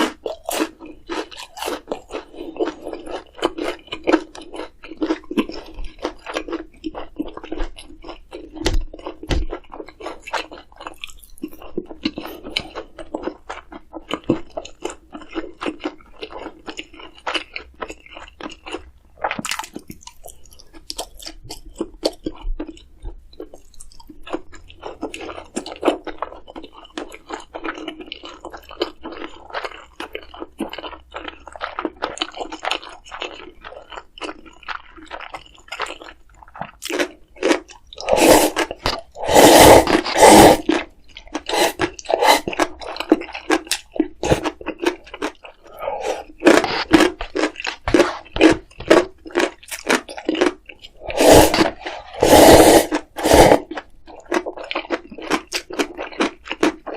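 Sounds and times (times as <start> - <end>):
person chewing crunchy food: 0.0 - 56.9.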